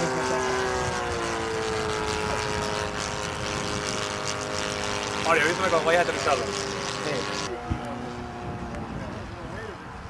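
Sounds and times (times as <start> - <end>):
model airplane engine drone: 0.0 - 10.0.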